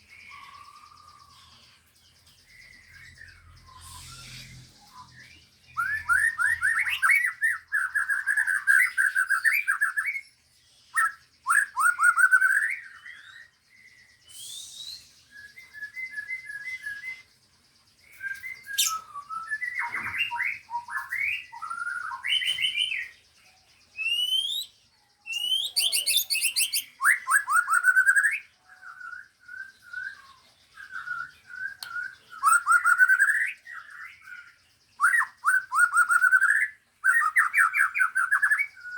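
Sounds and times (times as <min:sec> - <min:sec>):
caged songbirds singing: 0:00.0 - 0:38.9.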